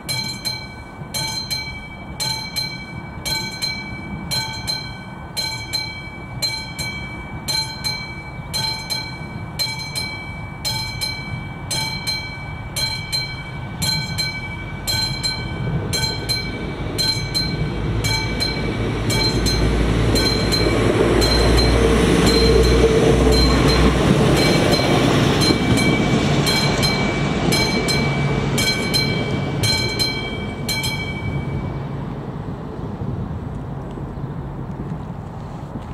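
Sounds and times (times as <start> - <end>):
level crossing bell ringing: 0.0 - 31.8
diesel railcar passing: 0.0 - 35.9.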